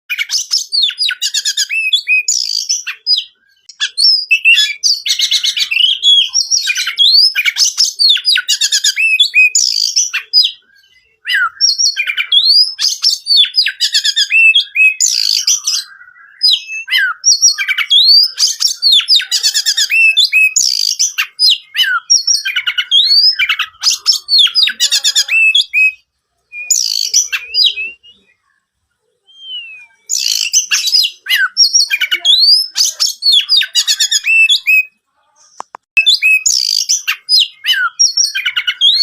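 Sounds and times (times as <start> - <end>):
bird singing varied song: 0.1 - 39.0.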